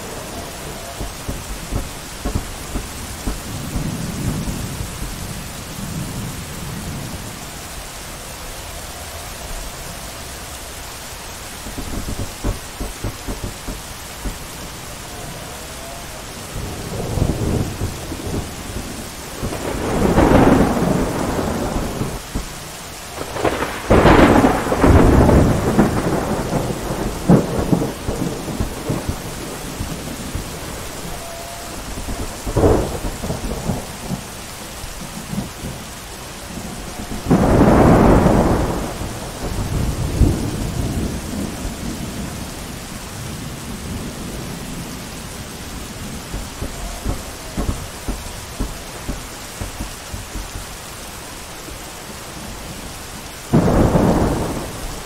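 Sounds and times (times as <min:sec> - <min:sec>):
thunder cracking and rumbling: 0:00.0 - 0:51.1, 0:52.2 - 0:55.0
steady rain: 0:00.0 - 0:55.0.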